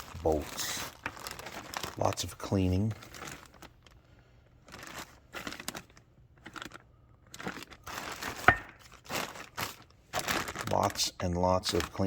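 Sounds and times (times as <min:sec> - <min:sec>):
wrappings crinkling and rustling: 0:00.0 - 0:12.0.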